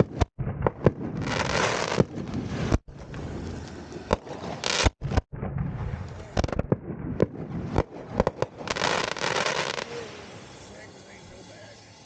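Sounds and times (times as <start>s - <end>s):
firework bangs: 0.0s - 10.7s
fireworks crackling and hissing: 0.0s - 12.0s.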